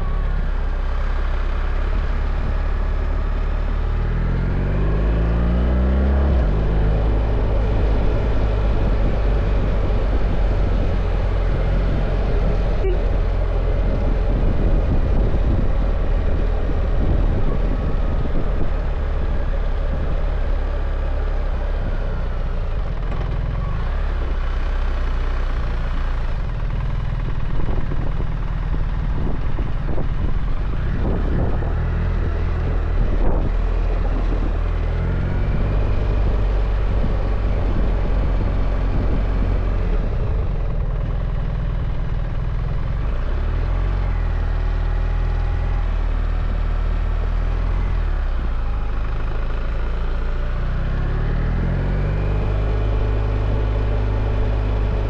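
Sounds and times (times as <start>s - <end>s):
wind noise: 0.0s - 20.9s, 25.6s - 49.8s
motorcycle engine running: 0.0s - 55.0s.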